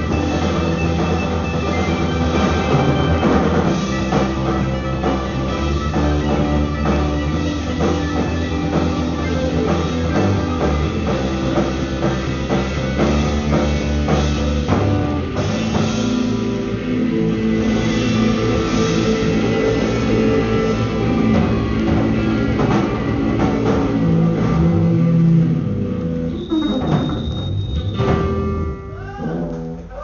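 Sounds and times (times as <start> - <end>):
drum kit steady beat: 0.0 - 25.8
live rock band: 0.0 - 30.0
sustained guitar notes: 0.0 - 30.0.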